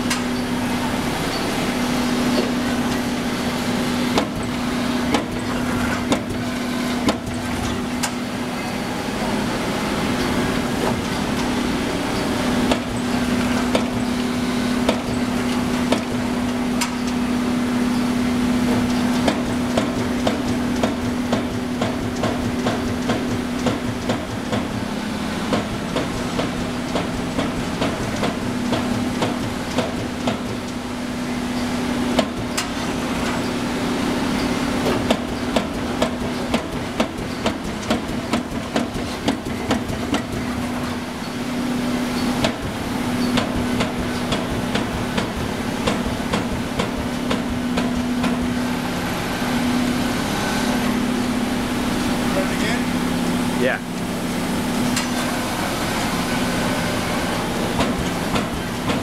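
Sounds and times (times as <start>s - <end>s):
machine hum: 0.0s - 59.0s.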